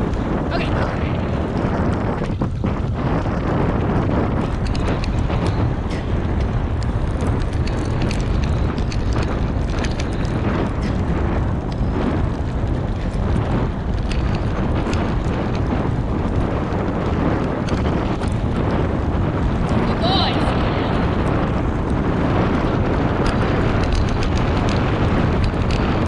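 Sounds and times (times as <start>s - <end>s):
bike tyre noise on dirt: 0.0s - 26.0s
wind on microphone: 0.0s - 26.0s.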